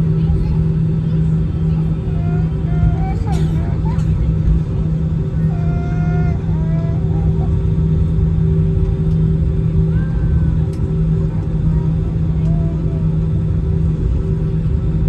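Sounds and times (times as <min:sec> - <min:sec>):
aircraft cabin drone: 0:00.0 - 0:15.0
faint voices: 0:00.0 - 0:15.0.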